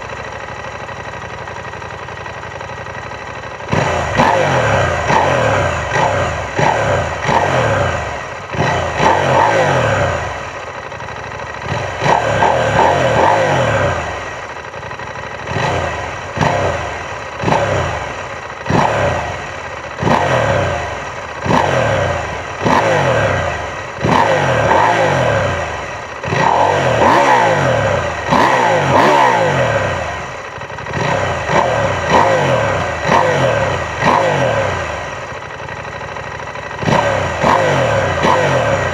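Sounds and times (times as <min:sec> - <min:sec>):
motorcycle engine throttle blips: 0:00.0 - 0:38.9.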